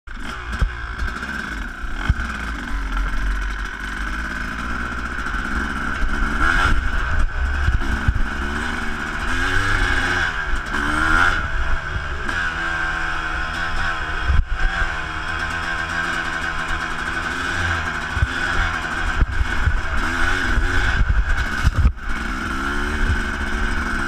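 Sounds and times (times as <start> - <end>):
dirt bike engine revving: 0.1 - 24.0.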